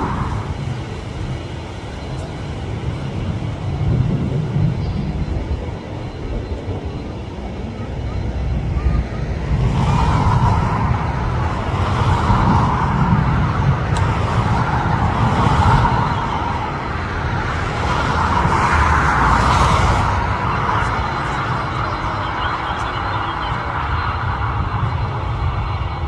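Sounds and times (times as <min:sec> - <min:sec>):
jet engine roar: 0:00.0 - 0:26.0
wind buffeting microphone: 0:00.0 - 0:26.0.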